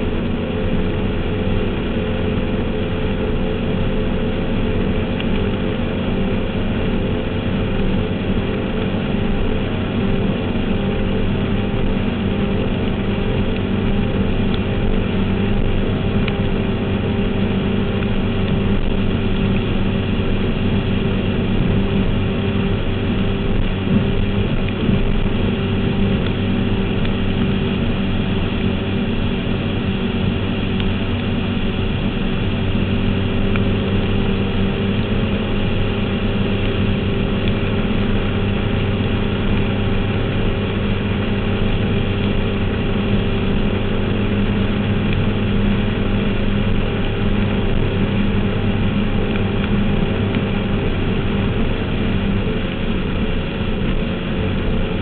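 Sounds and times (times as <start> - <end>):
powerboat engine running: 0.0 - 55.0
rush of wind and water: 0.0 - 55.0.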